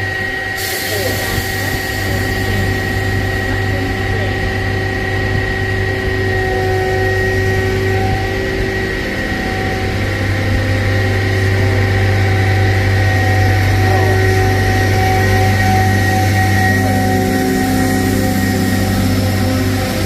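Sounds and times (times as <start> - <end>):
diesel engine running: 0.0 - 20.0
high whine: 0.0 - 20.0.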